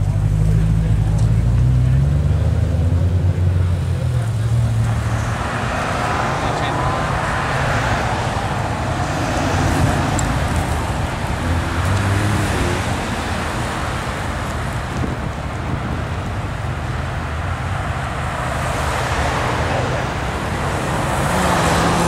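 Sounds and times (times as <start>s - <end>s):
sports car engine pulling away: 0.0s - 18.0s, 18.6s - 22.0s
passing road traffic: 0.0s - 22.0s.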